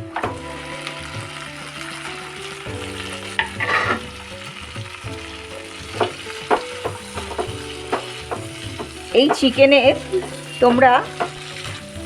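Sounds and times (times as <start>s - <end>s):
chicken sizzling in butter: 0.0s - 12.0s
spatula scraping a pan: 0.2s - 12.0s.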